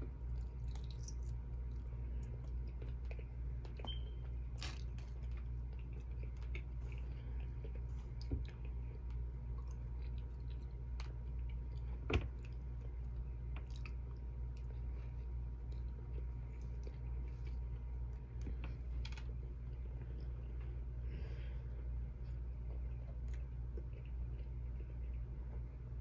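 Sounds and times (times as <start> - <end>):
person chewing food: 0.0 - 26.0
steady low hum: 0.0 - 26.0.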